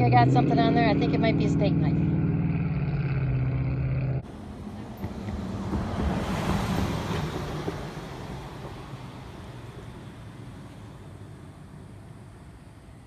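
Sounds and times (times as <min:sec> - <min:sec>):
car driving past: 0:00.0 - 0:12.6
low engine hum: 0:00.0 - 0:13.0.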